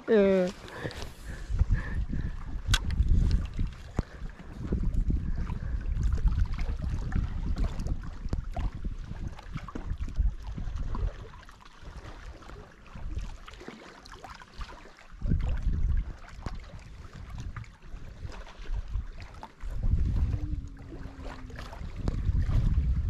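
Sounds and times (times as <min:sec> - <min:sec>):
wind buffeting microphone: 0:00.1 - 0:13.5, 0:15.1 - 0:23.0.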